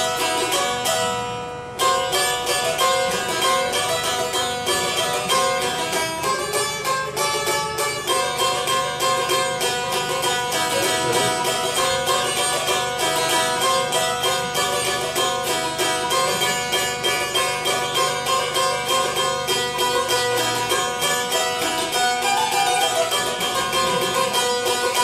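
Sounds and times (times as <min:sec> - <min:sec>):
plucked lute melody: 0:00.0 - 0:25.0.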